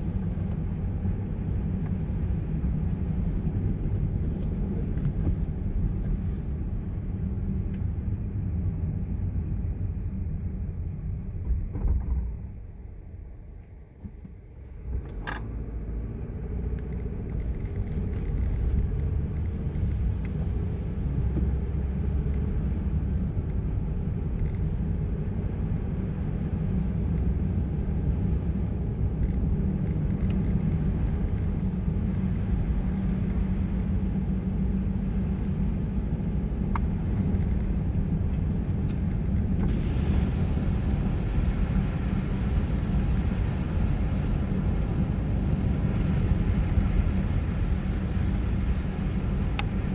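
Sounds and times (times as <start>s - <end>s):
car engine and tyres rumbling: 0.0s - 49.9s.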